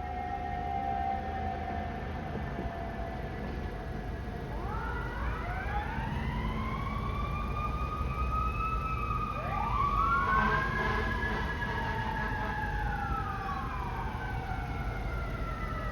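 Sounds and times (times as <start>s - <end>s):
truck engine rumble: 0.0s - 15.9s
fire engine siren winding: 2.8s - 15.9s.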